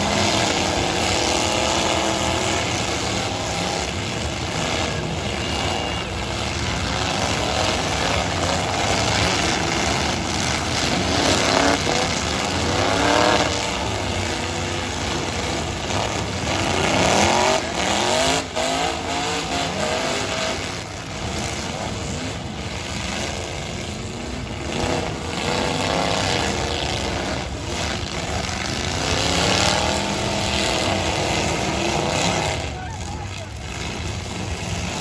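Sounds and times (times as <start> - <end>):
truck engines revving: 0.0 - 35.0.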